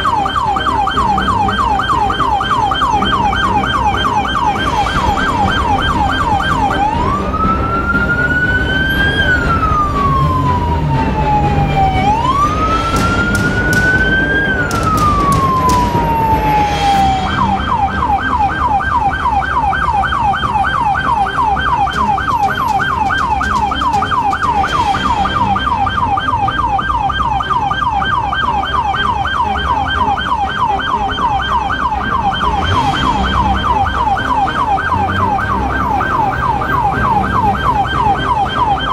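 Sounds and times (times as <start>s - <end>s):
police siren yelping and wailing: 0.0s - 38.9s.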